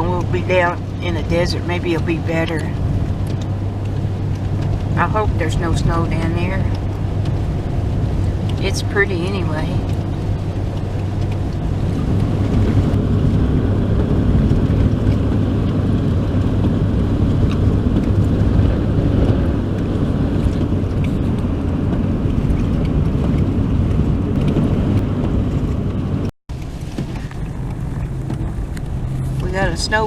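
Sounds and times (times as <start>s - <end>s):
low hum: 0.0s - 30.0s
road and engine noise in car: 0.0s - 30.0s.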